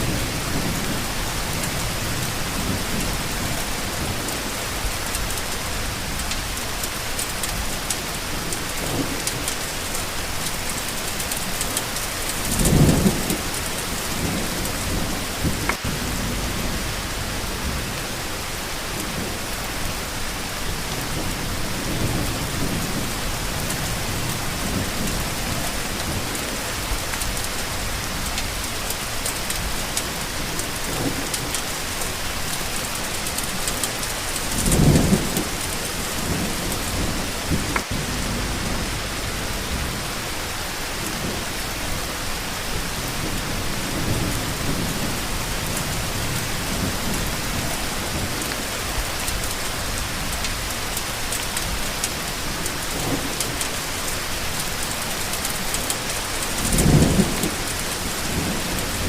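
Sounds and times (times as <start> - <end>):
steady rain: 0.0 - 59.0
thunder rumbles: 0.0 - 59.0.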